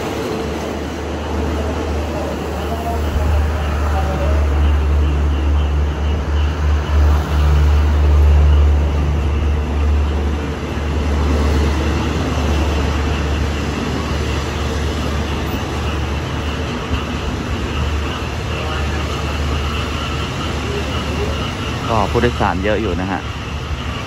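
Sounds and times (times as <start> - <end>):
low drone: 0.0 - 24.0
train wheels rumbling on rails: 0.0 - 24.0.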